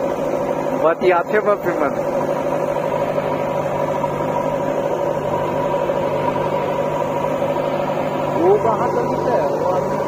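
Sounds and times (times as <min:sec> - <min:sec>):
diesel engine running: 0:00.0 - 0:10.0
high whine: 0:00.0 - 0:10.0.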